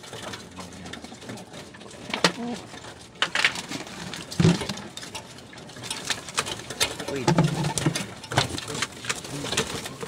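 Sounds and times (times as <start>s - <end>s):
birds clattering on wire mesh: 0.0s - 10.0s.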